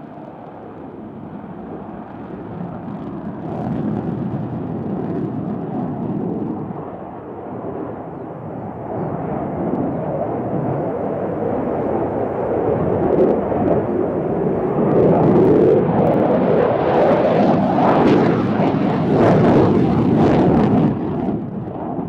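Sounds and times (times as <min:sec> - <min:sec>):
jet engine afterburner roar: 0:00.0 - 0:22.0.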